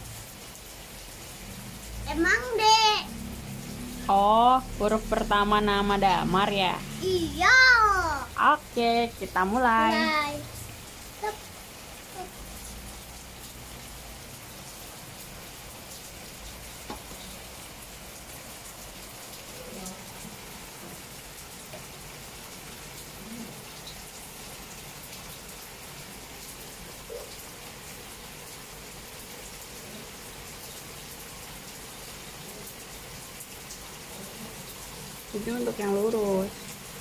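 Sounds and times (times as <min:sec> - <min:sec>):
rain hissing: 0:00.0 - 0:37.0.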